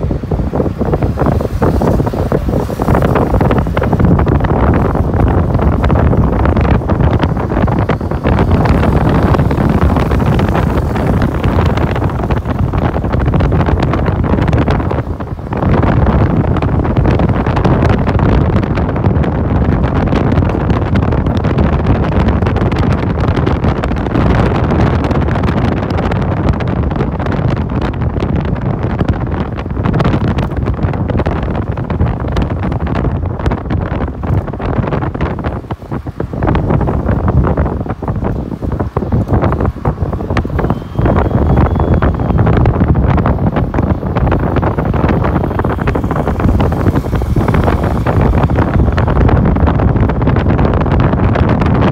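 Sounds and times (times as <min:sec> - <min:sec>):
motorcycle engine and road noise: 0:00.0 - 0:51.9
wind buffeting microphone: 0:00.0 - 0:51.9.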